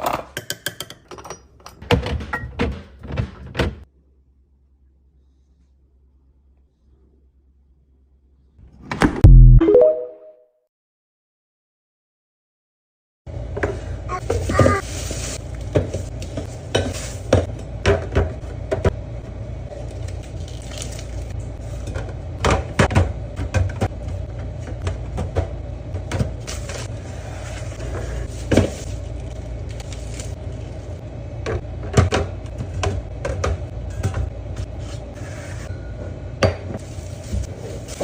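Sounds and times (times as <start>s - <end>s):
refrigerator hum: 1.1s - 9.0s, 13.3s - 38.0s.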